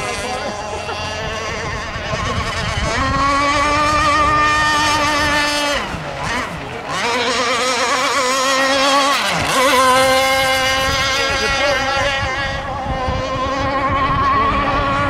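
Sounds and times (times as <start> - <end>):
model boat engine buzzing: 0.0 - 15.0.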